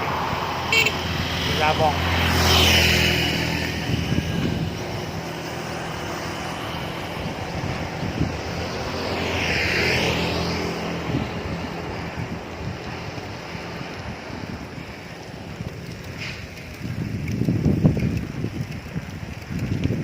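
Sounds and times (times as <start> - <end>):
motor vehicle passing: 0.0 - 20.0.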